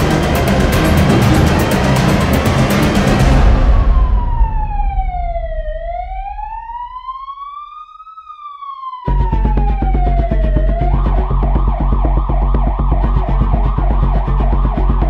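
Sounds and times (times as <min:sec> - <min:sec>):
background music with a beat: 0:00.0 - 0:07.2, 0:09.1 - 0:15.0
slow wailing siren: 0:00.0 - 0:15.0.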